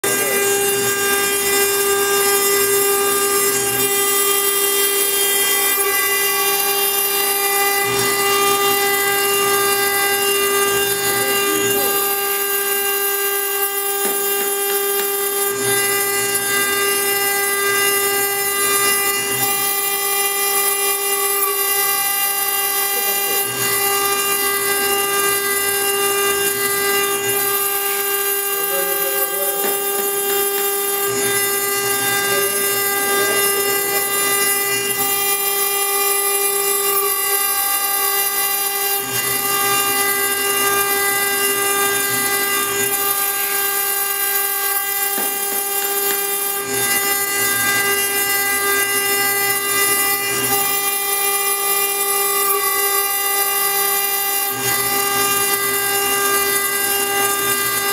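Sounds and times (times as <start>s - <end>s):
bit grinding stone: 0.0s - 57.9s
router spindle high whine: 0.0s - 57.9s.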